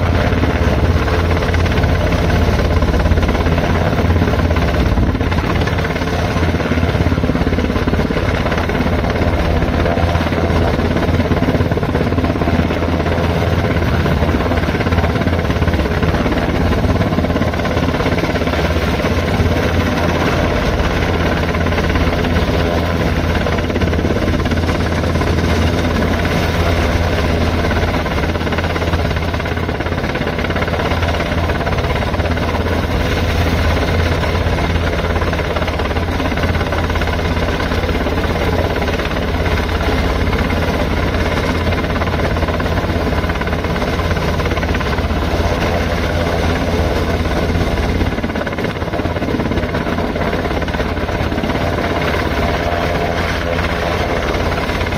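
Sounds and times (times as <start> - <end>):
helicopter rotor and engines: 0.0 - 54.9.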